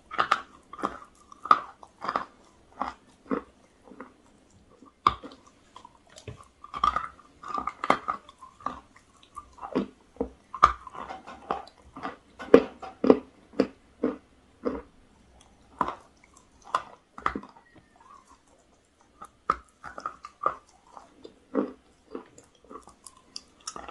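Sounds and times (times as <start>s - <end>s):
crunchy chewing: 0.0s - 23.9s.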